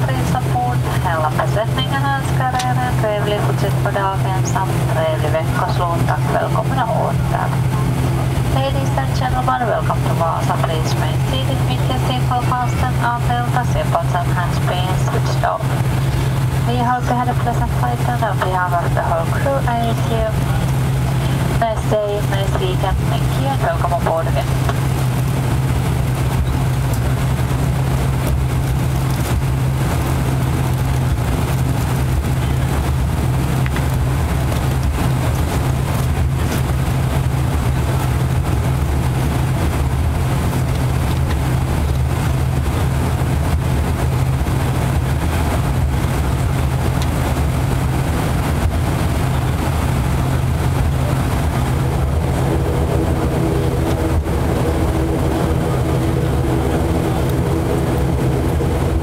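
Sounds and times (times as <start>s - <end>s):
turboprop engines humming: 0.0s - 59.0s.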